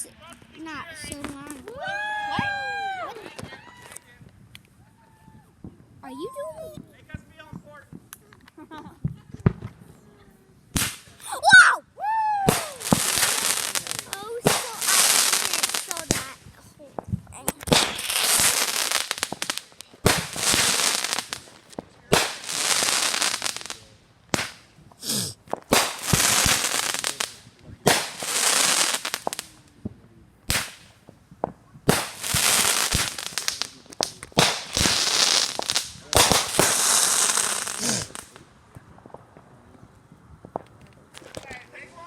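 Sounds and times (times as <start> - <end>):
fireworks bursting and crackling: 0.0 - 11.7, 12.3 - 42.0.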